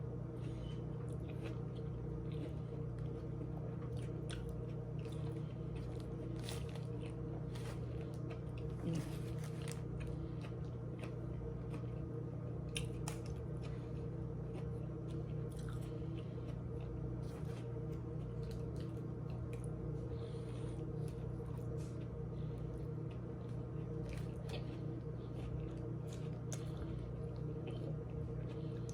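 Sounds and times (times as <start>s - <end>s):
low hum: 0.0s - 28.9s
person chewing sandwich: 0.0s - 28.9s.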